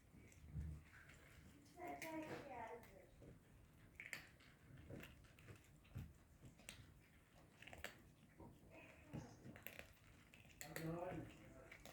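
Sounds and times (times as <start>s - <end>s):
cats chewing food: 0.0s - 11.9s.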